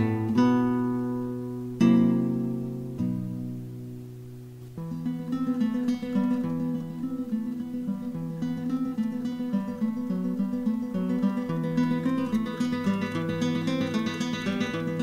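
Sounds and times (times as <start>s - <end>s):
plucked guitar run: 0.0s - 15.0s.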